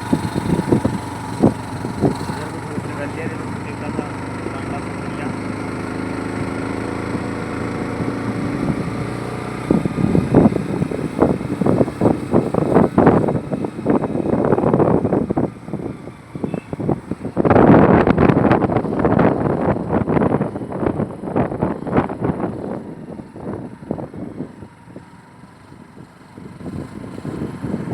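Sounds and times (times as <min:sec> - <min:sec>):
vehicle engine running: 0:00.0 - 0:27.9
wind buffeting microphone: 0:00.0 - 0:27.9.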